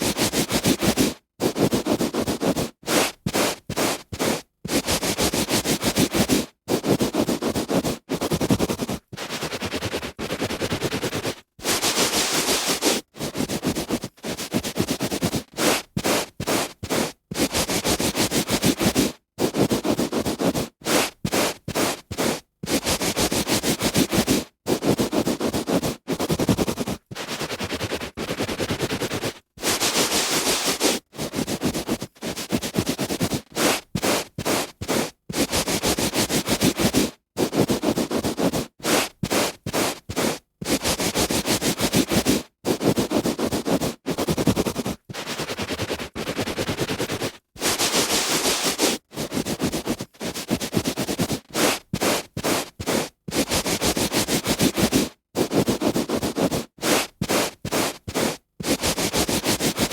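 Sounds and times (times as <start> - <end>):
hand rubbing on carpet: 0.0 - 59.9.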